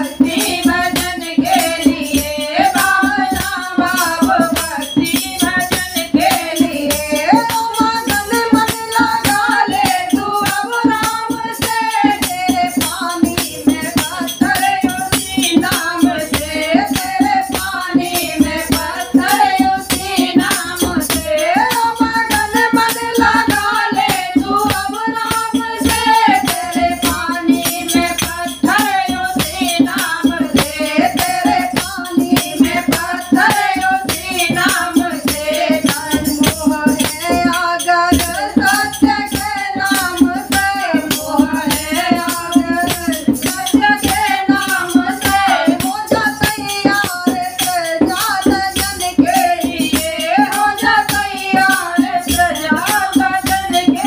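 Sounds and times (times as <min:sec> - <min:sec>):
hand cymbals and rattle jingling: 0:00.0 - 0:54.0
hand drumming: 0:00.0 - 0:54.0
women singing devotional song: 0:00.0 - 0:54.0.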